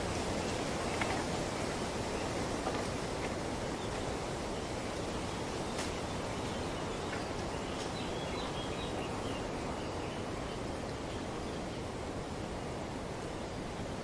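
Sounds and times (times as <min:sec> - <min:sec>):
wind rustling through foliage: 0:00.0 - 0:14.0.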